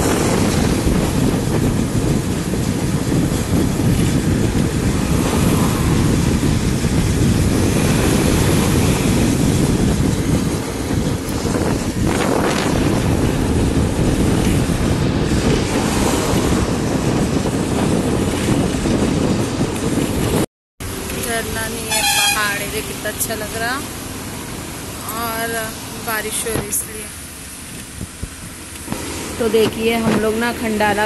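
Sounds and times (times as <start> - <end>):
wind and road noise: 0.0 - 31.0
wind buffeting microphone: 0.0 - 31.0.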